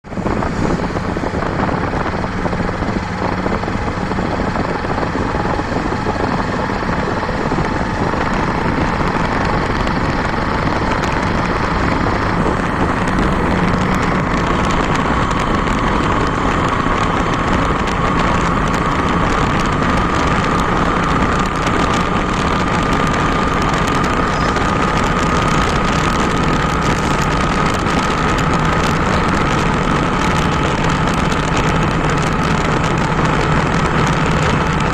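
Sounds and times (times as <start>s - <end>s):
constant rushing noise: 0.0s - 34.9s
motorcycle engine running: 0.0s - 34.9s.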